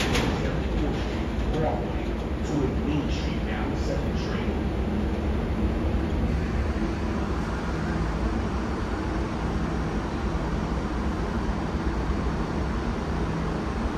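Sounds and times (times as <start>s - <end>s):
low hum: 0.0s - 13.9s
subway train rumble and hiss: 0.0s - 13.9s.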